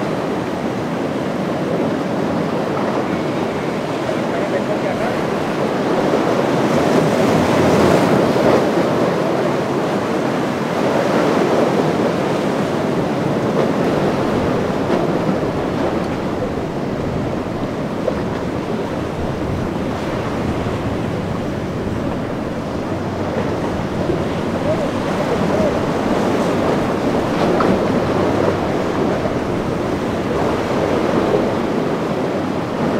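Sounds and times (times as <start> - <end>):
surf breaking and rushing: 0.0 - 32.9
wind buffeting microphone: 0.0 - 32.9.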